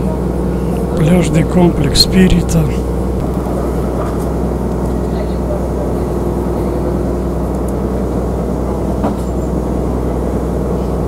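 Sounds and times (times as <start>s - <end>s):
ferry engine droning: 0.0s - 11.0s.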